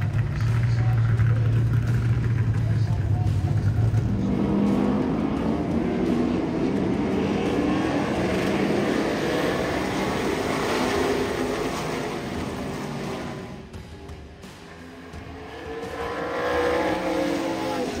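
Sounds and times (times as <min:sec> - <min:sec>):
stock car engines racing: 0:00.0 - 0:18.0.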